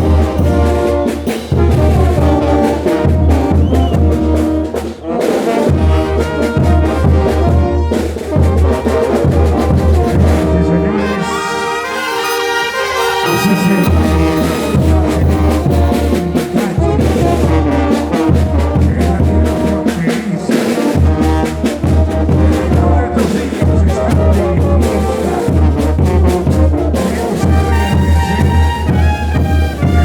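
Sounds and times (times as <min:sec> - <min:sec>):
heavy bass drum and cymbals: 0:00.0 - 0:10.8, 0:13.3 - 0:30.0
brass band playing dance music: 0:00.0 - 0:30.0.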